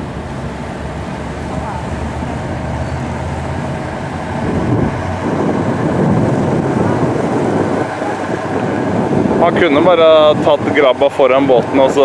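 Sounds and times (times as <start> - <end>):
boat engine running: 0.0 - 12.0
rushing noise: 0.0 - 12.0.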